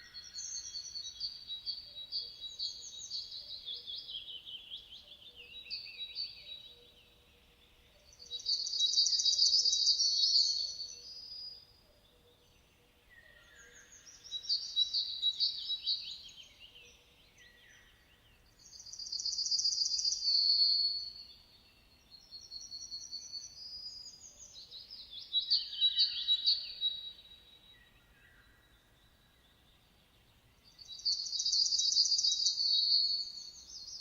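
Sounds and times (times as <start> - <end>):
songbirds trilling and chirping: 0.0 - 34.0.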